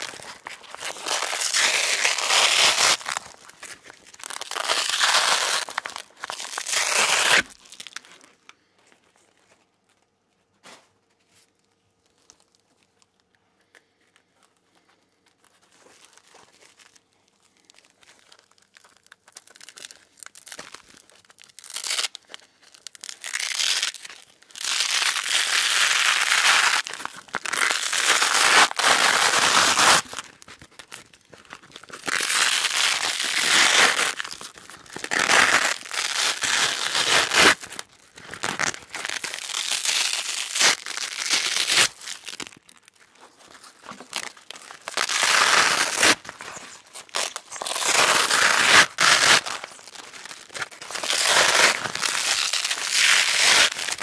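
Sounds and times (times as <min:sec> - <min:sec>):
velcro ripping apart: 0:00.0 - 0:08.3, 0:16.0 - 0:54.0.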